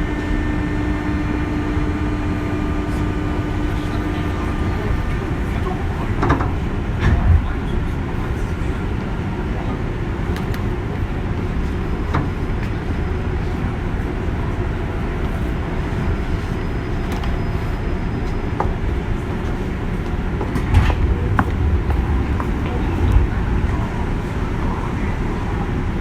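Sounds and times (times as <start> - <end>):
train interior low rumble: 0.0 - 26.0.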